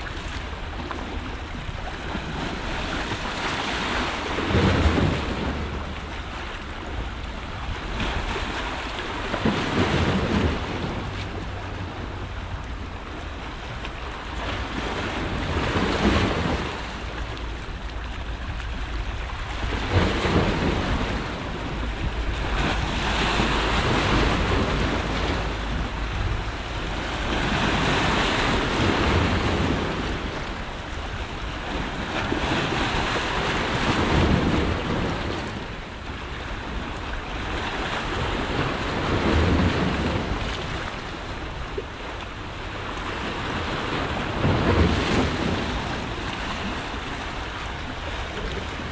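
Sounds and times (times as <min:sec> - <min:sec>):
waves breaking on rocks: 0:00.0 - 0:48.9
wind rumble on microphone: 0:00.0 - 0:48.9.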